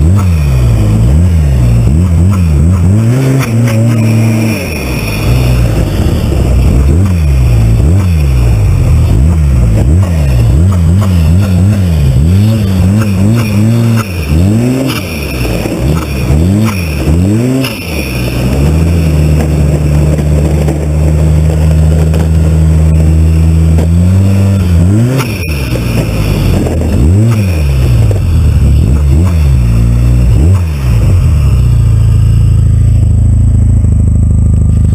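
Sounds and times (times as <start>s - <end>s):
snowmobile engine revving: 0.0s - 33.6s.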